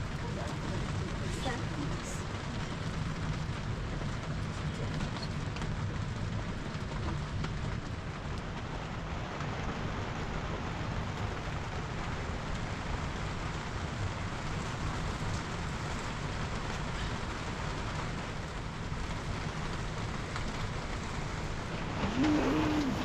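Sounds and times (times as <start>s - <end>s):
raindrop ticks: 0.0s - 23.0s
steady rainfall hiss: 0.0s - 23.0s.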